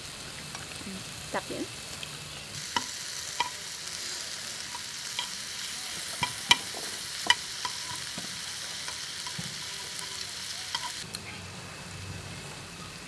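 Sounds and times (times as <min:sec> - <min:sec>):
meat sizzling on grill pan: 0:00.0 - 0:13.0.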